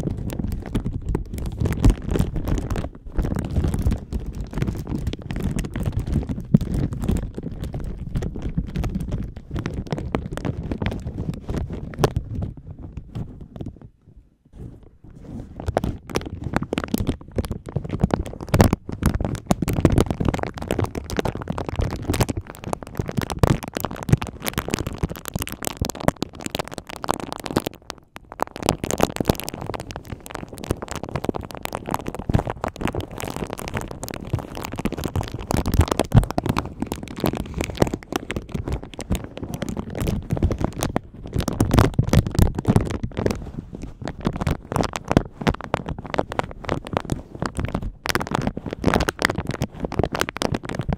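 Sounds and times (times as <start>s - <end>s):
plastic bag crinkling on microphone: 0.0s - 50.9s.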